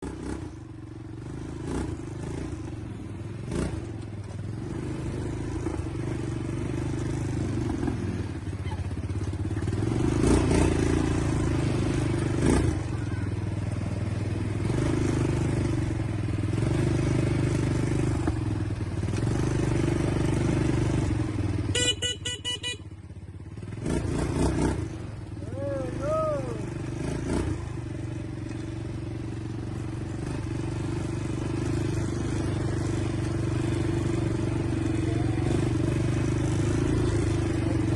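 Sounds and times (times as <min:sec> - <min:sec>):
atv engine revving: 0:00.0 - 0:37.9.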